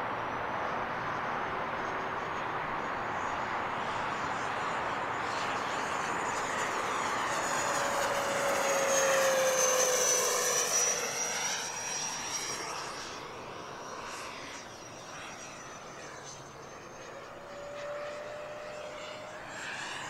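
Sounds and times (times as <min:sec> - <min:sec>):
electric ducted fan jet whining: 0:00.0 - 0:13.8, 0:15.6 - 0:20.0.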